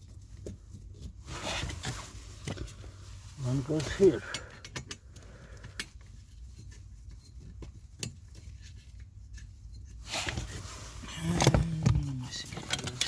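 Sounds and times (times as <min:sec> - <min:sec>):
scraping rustle: 0:00.0 - 0:04.2, 0:06.1 - 0:13.0
low steady hum: 0:00.0 - 0:13.0.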